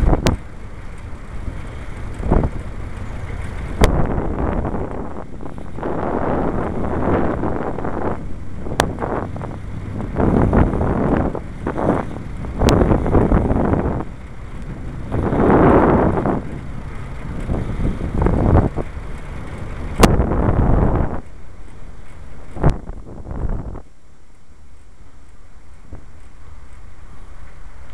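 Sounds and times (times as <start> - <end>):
low rumble: 0.0 - 27.9
wind buffeting microphone: 0.0 - 27.9.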